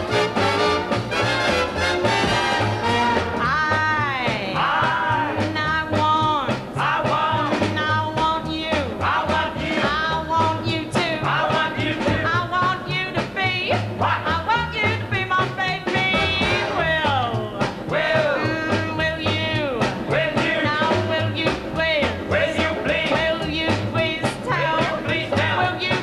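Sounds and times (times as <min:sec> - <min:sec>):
rock and roll music with singer: 0:00.0 - 0:26.0.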